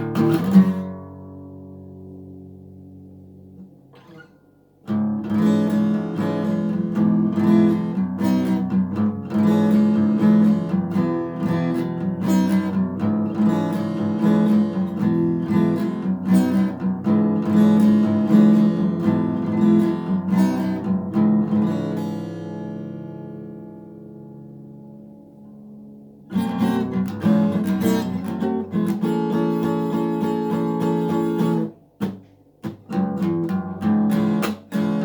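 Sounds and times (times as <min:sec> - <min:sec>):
acoustic guitar strummed chords: 0:00.0 - 0:35.0.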